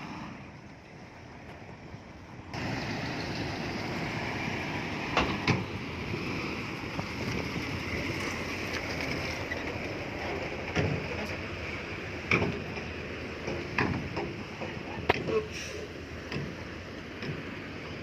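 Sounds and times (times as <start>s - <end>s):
heavy earth-moving machinery running: 0.0s - 18.0s.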